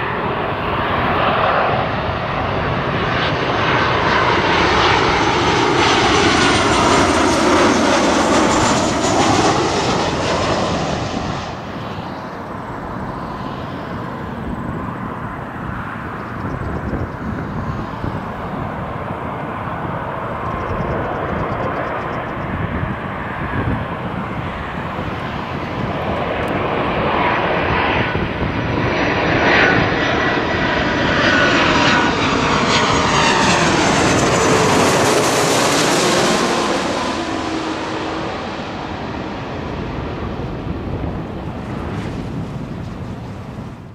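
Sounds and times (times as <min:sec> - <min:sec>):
jet airliners passing overhead: 0:00.0 - 0:43.9
jet engine whine: 0:00.0 - 0:43.9.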